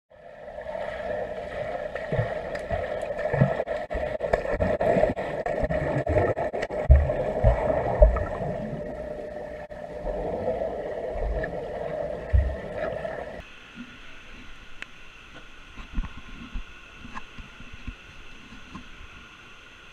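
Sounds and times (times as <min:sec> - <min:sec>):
muffled underwater hum: 0:00.1 - 0:19.9.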